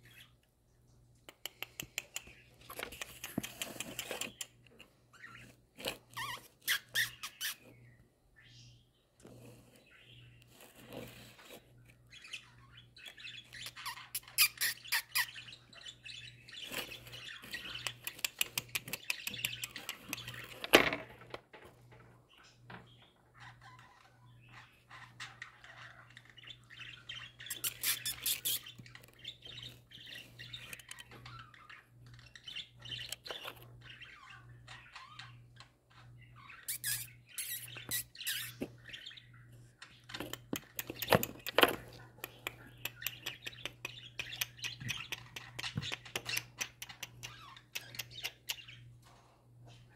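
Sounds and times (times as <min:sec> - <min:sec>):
budgerigars chirping and squawking: 0:00.0 - 0:00.5, 0:01.4 - 0:20.7, 0:22.1 - 0:49.9.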